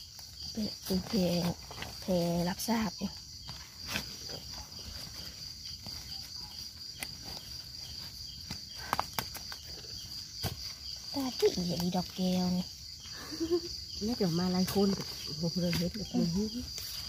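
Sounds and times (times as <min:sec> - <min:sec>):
high-pitched insect chorus: 0:00.0 - 0:17.0
rustles: 0:00.0 - 0:17.0.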